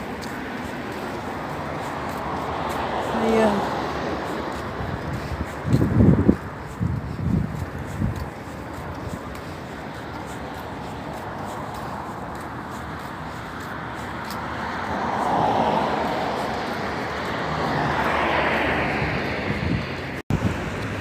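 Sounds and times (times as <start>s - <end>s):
car passing: 0.0s - 21.0s.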